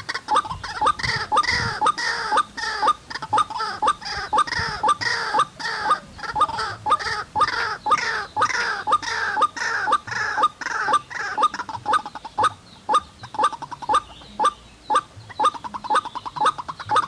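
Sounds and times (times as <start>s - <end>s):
waterhen calling harsh notes: 0.0s - 17.0s.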